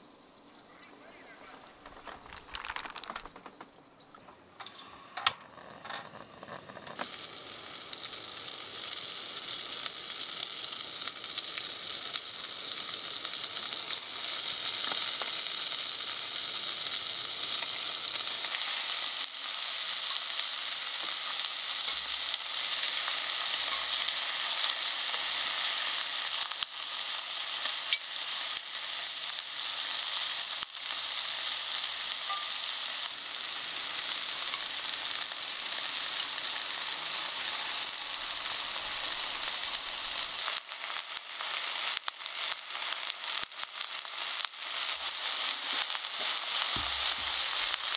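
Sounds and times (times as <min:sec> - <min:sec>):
food sizzling in a pan: 0:04.8 - 0:47.9.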